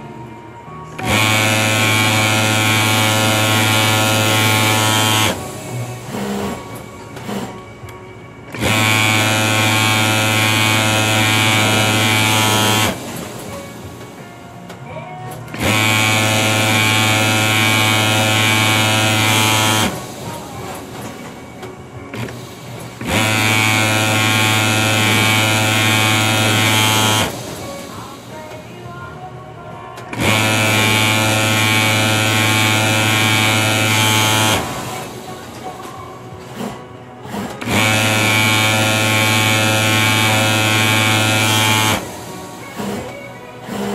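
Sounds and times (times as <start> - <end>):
sewing machine running: 0.9 - 7.6, 8.5 - 14.2, 15.5 - 28.6, 30.1 - 43.9.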